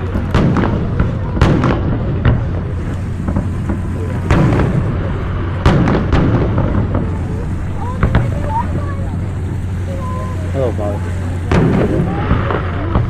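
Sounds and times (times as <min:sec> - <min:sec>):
fireworks bangs and crackles: 0:00.0 - 0:13.0
steady low rumble: 0:00.0 - 0:13.0.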